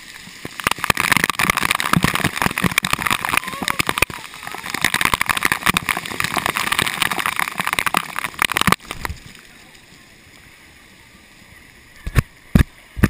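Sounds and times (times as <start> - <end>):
water spray pattering: 0.0 - 13.0.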